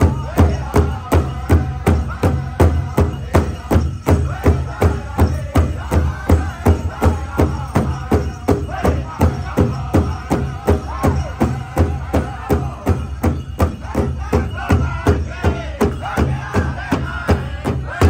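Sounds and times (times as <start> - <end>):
group of voices singing: 0.0 - 18.0
large drum beating: 0.0 - 18.0.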